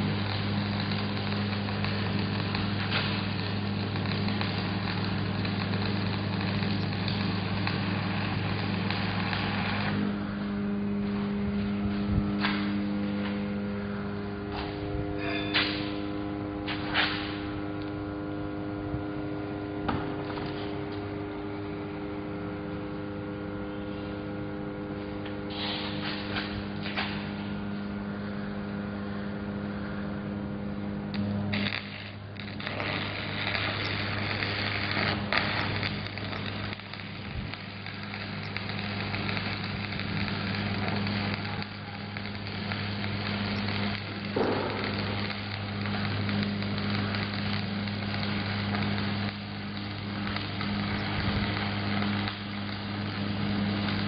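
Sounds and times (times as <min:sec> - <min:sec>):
welding arc crackling: 0:00.0 - 0:22.2, 0:24.8 - 0:28.3, 0:30.8 - 0:54.0
electrical hum: 0:00.0 - 0:54.0.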